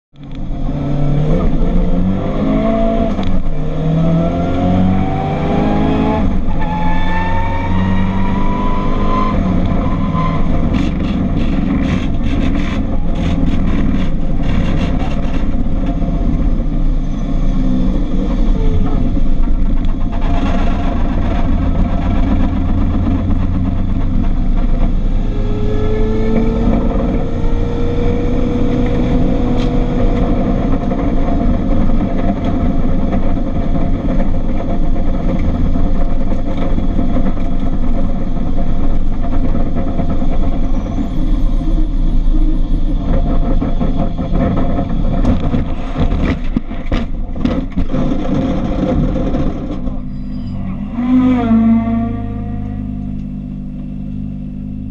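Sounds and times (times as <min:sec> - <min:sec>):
road noise: 0:00.1 - 0:54.9
car engine running hard: 0:00.2 - 0:54.9.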